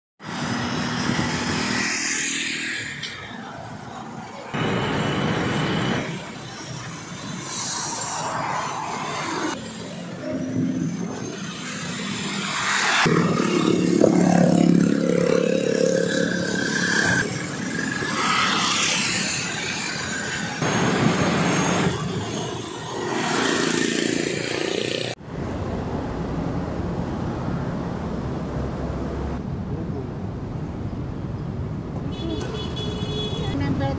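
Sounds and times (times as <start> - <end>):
cars and motorbikes passing: 0.2 - 33.9
city road traffic: 0.2 - 33.9.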